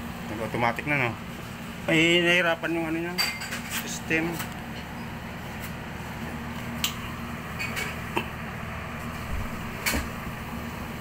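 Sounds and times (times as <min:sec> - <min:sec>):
ice maker humming: 0:00.0 - 0:11.0.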